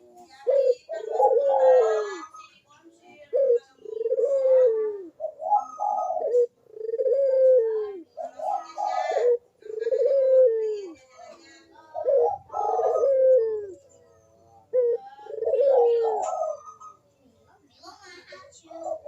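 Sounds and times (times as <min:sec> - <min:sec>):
dove cooing: 0:00.0 - 0:02.4, 0:03.1 - 0:17.1, 0:18.6 - 0:19.0.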